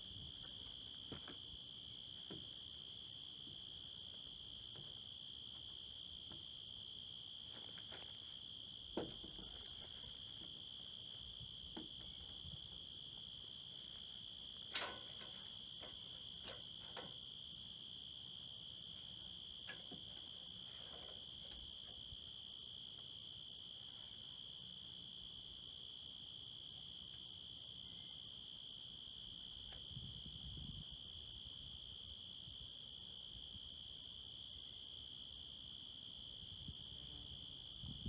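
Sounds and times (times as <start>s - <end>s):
high-pitched insect chorus: 0.0s - 38.0s.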